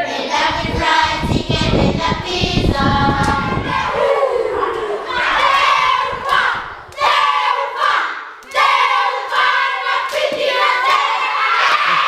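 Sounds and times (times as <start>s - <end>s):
children chanting and shouting: 0.0s - 12.0s.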